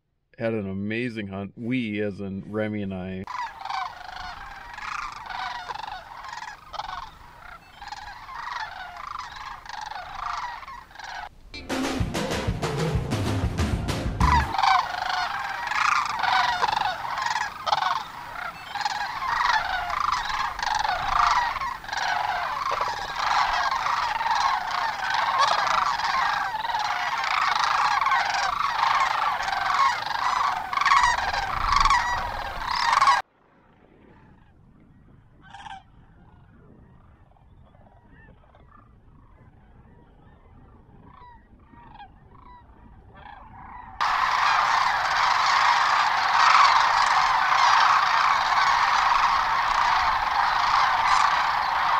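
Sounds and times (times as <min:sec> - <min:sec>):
cranes bugling in a chorus: 0:03.2 - 0:11.4, 0:13.8 - 0:33.2, 0:35.4 - 0:51.9.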